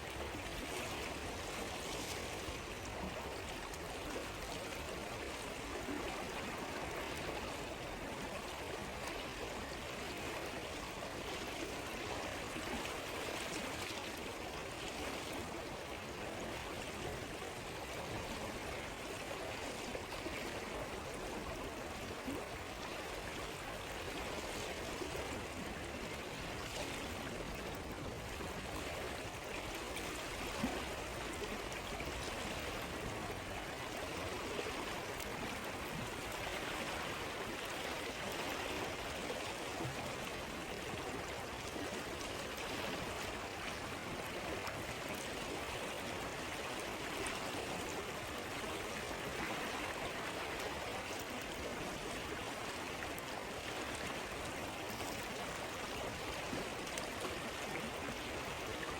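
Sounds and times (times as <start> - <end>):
stream running over stones: 0.0 - 58.9.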